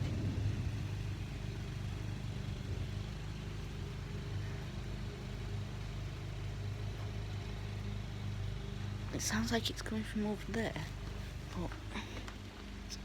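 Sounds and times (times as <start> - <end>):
lawnmower engine running: 0.0 - 13.0.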